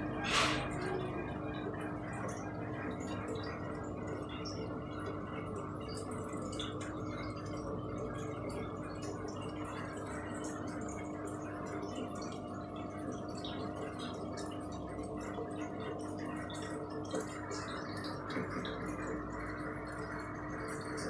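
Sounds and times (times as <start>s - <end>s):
aquarium filter humming: 0.0s - 21.0s
water trickling and dripping: 0.0s - 21.0s.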